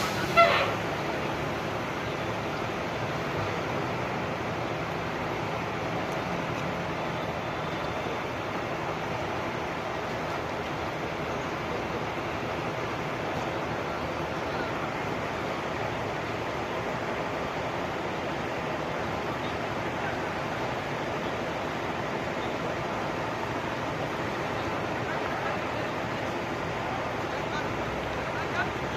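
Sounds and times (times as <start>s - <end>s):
vehicle road rushing noise: 0.0s - 28.9s.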